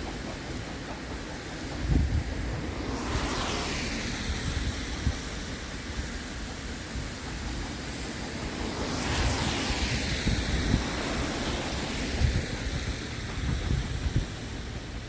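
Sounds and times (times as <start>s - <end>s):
broad hiss: 0.0s - 15.0s
wind buffeting microphone: 0.0s - 15.0s.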